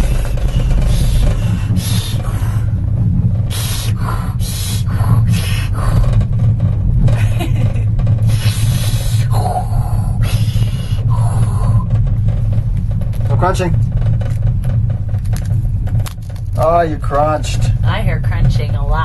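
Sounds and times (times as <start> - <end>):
low rumble of gondola cabin: 0.0 - 19.0.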